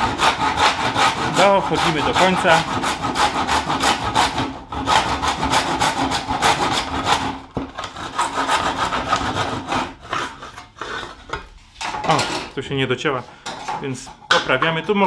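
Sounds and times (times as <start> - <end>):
hand saw cutting wood: 0.0 - 12.2.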